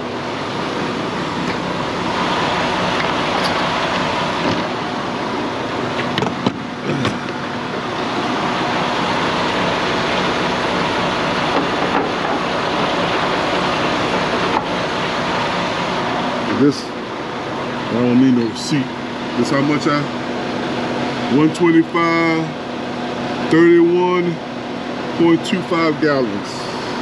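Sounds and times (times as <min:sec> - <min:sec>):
vehicle hum: 0:00.0 - 0:27.0.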